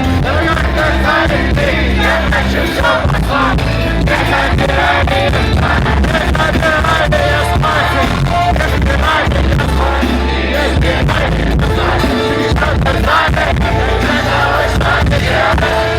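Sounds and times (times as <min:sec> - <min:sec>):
loud rock music with vocals: 0:00.0 - 0:15.9.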